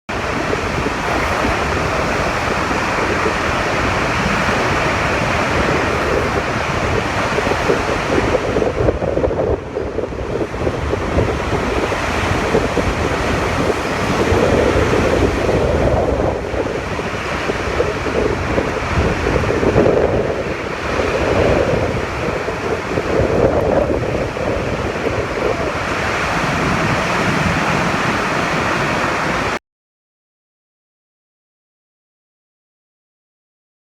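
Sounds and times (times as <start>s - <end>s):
strong wind buffeting microphone: 0.1s - 29.6s.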